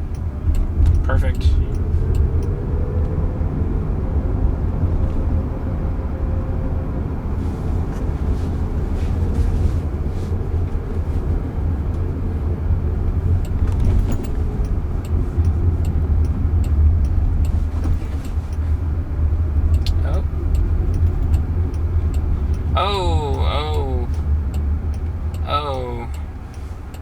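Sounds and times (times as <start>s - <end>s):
road and tyre rumble: 0.0s - 27.0s.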